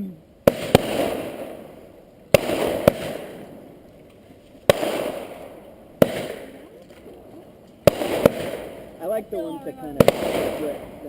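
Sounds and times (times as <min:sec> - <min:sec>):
firework shells bursting: 0:00.4 - 0:11.0.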